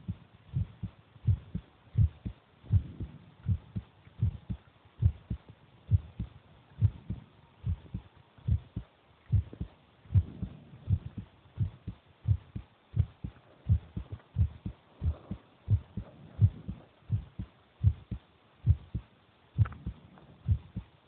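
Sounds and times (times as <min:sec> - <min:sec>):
amplified human heartbeat: 0:00.0 - 0:21.0.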